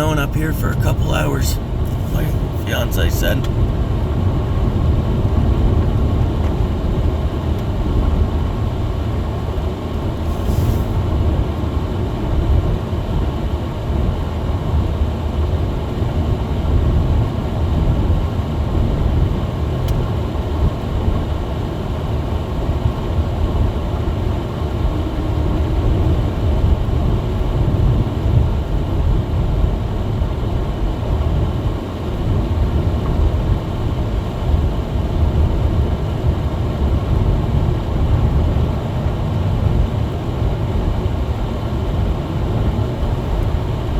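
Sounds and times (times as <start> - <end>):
car engine and tyre rumble: 3.4 - 43.9.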